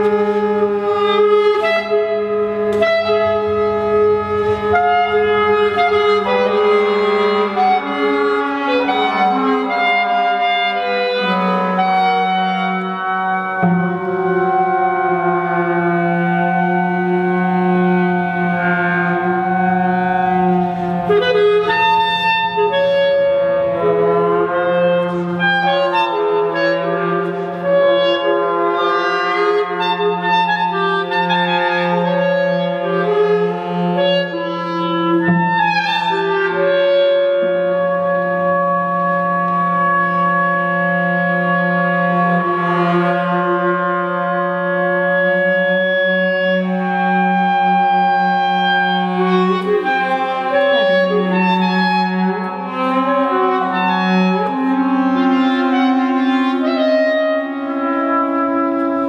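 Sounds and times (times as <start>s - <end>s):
woodwind and brass chamber music: 0.0s - 59.0s.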